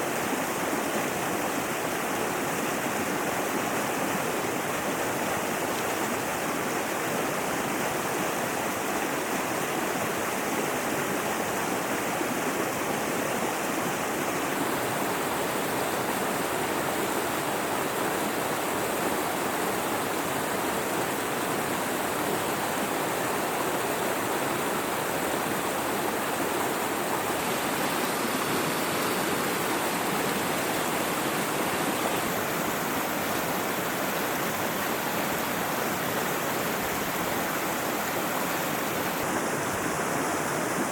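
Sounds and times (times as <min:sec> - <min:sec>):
mountain river rushing: 0:00.0 - 0:40.9.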